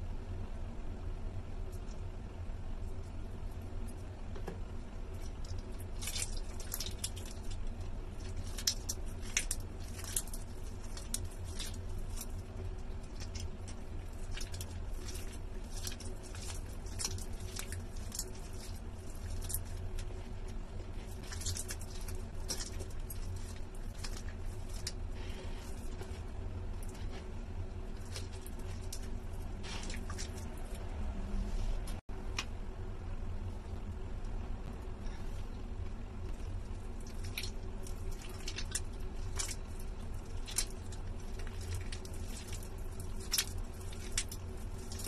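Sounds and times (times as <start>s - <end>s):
steady low hum: 0.0s - 45.0s
wet soap squished by hands: 2.8s - 31.2s, 34.6s - 45.0s.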